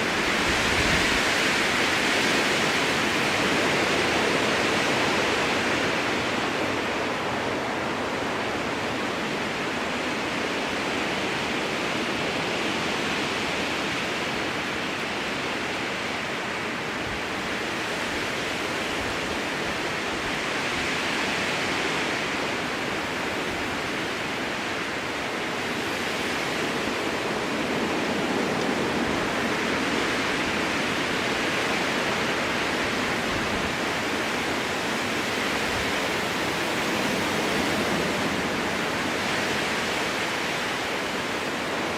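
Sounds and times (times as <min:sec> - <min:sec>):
strong wind through trees: 0:00.0 - 0:41.9.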